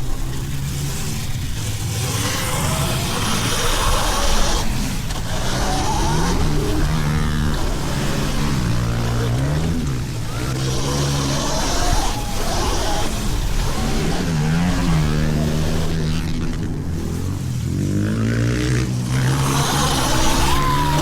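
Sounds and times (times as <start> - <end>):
pit bike engines revving: 0.0 - 21.0.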